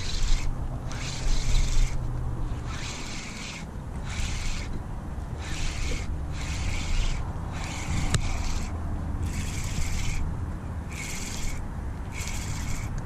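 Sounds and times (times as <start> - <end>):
fishing reel whirring: 0.0 - 4.8, 5.4 - 13.0
low wind rumble: 0.0 - 13.0.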